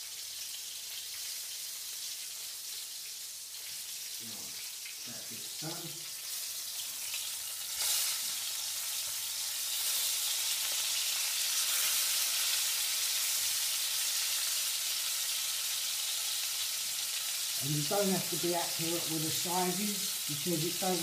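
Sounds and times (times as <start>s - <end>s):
chicken sizzling in frying pan: 0.0s - 21.0s.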